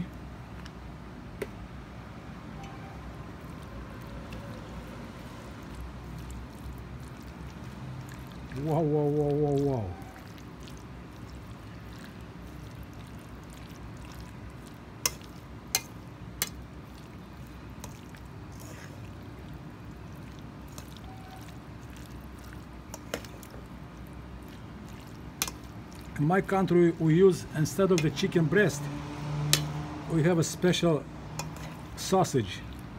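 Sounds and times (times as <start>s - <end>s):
spoon stirring wet salad: 3.2s - 32.9s.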